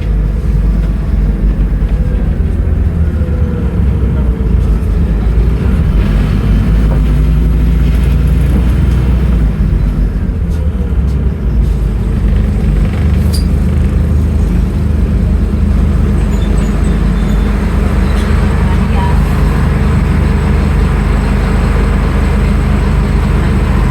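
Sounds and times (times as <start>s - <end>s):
bus diesel engine rumble: 0.0s - 23.9s.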